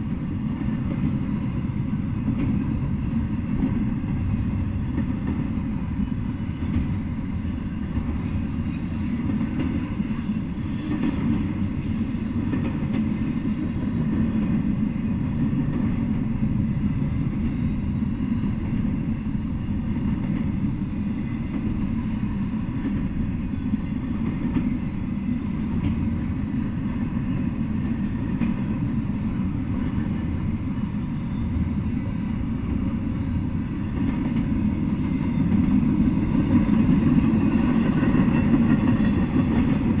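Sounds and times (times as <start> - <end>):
freight train rumbling on rails: 0.0 - 40.0.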